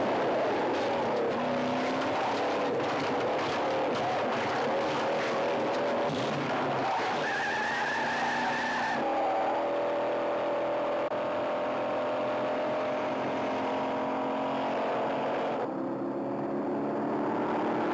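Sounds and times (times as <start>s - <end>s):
car engine running at speed: 0.0s - 17.9s.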